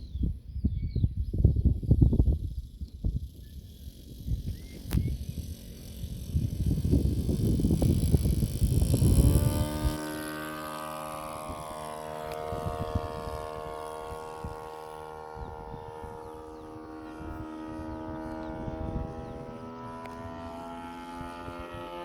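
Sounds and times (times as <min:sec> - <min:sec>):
model plane engine drone: 0:00.0 - 0:22.0.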